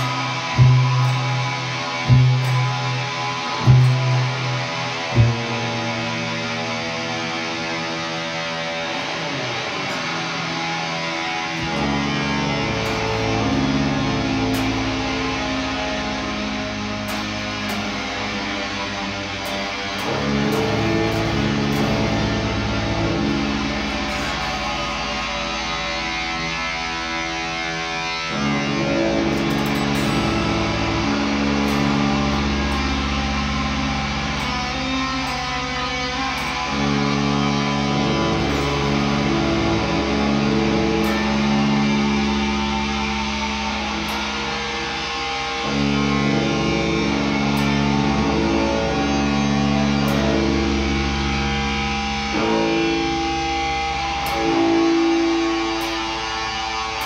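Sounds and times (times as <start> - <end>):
bass guitar notes: 0.0 - 57.0
guitar chords: 0.0 - 57.0.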